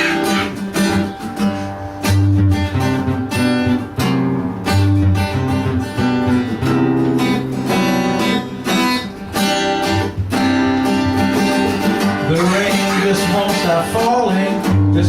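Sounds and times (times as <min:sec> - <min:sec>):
guitars strumming chords: 0:00.0 - 0:15.0.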